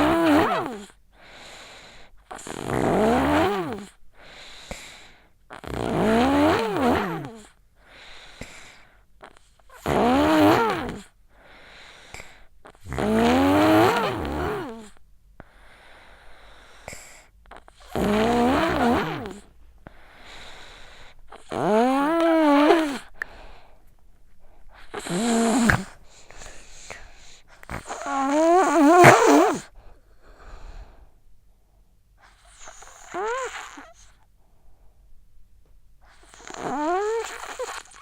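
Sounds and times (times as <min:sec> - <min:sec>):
child snoring with wheeze: 0:00.0 - 0:23.7, 0:24.7 - 0:29.8, 0:32.3 - 0:34.2, 0:36.1 - 0:38.0.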